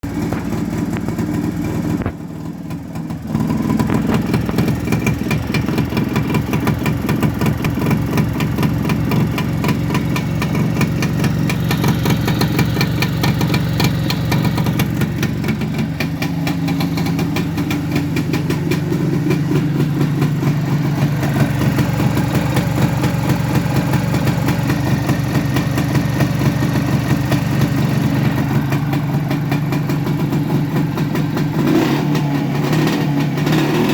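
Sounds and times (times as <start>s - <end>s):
two-stroke engine idling: 0.0s - 33.9s.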